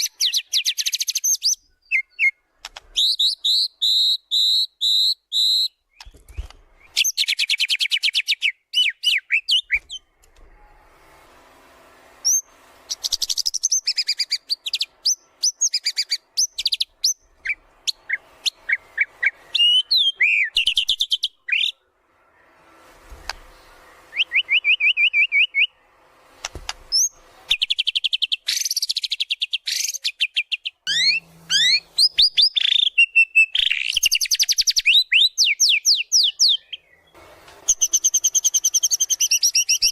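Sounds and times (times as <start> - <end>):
songbird trilling and whistling: 0.0 - 10.0, 12.2 - 21.8, 24.1 - 25.8, 26.9 - 37.1, 37.7 - 39.9.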